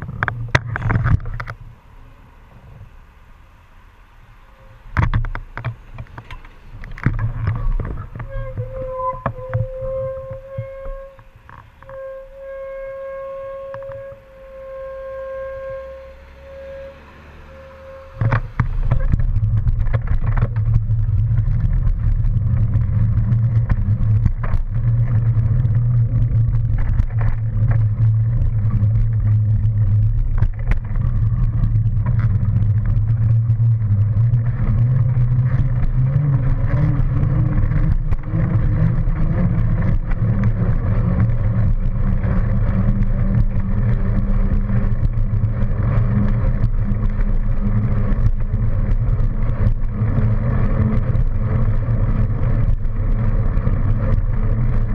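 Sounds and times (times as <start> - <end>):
passing road traffic: 0.0 - 12.0, 12.6 - 54.9
bicycle tyre noise: 0.0 - 54.9
wind rumble: 0.0 - 54.9.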